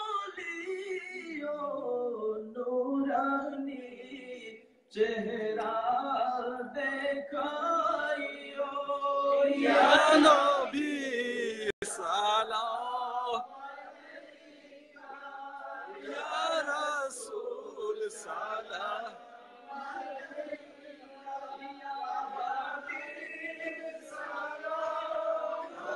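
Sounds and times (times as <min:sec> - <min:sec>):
man chanting devotional song: 0:00.0 - 0:14.4, 0:16.1 - 0:25.7.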